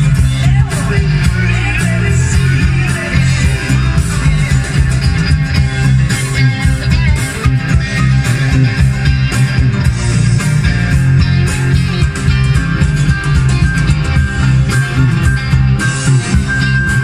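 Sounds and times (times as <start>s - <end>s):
music with guitar and bass: 0.0s - 17.0s.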